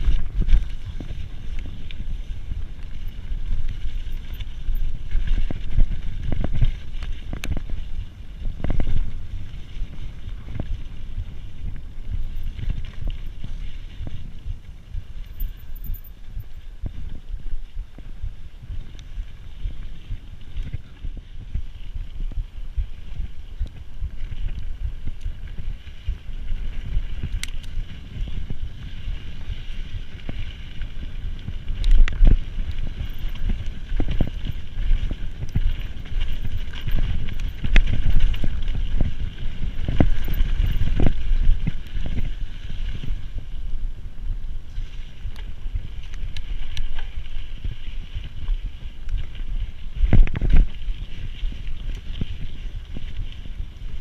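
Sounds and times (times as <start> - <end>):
bike tyre noise on dirt: 0.0 - 54.0
wind on microphone: 0.0 - 54.0.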